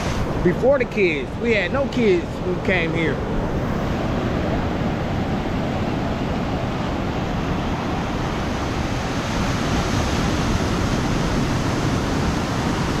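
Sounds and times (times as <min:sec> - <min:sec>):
ocean surf breaking on beach: 0:00.0 - 0:13.0
wind buffeting microphone: 0:00.0 - 0:13.0.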